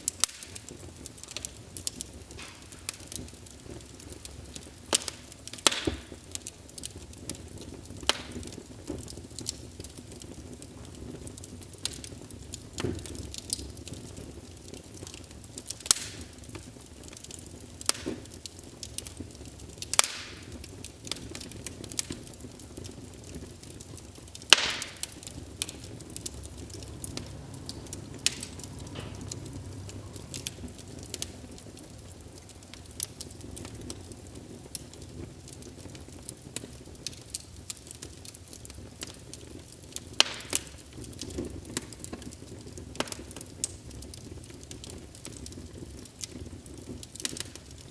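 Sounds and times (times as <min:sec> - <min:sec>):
fire crackling in fireplace: 0:00.0 - 0:47.9.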